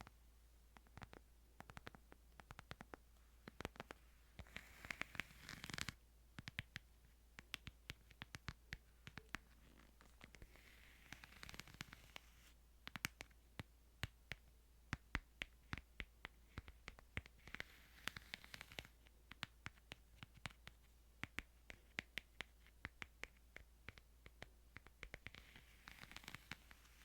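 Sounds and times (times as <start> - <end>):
soft rustle: 0.0 - 13.7, 16.2 - 27.0
light taps and clicks on a book: 0.7 - 27.0.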